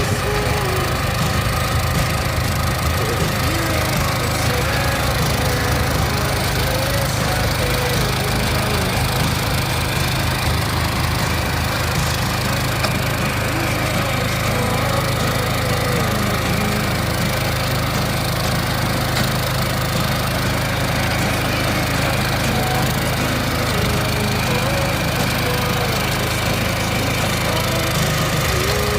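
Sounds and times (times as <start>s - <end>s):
cultivator engine running: 0.0s - 28.9s.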